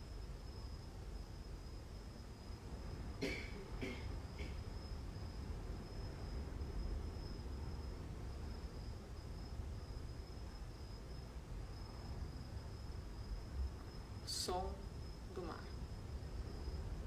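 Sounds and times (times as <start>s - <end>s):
cricket trilling: 0.0s - 17.0s
low background hum: 0.0s - 17.0s.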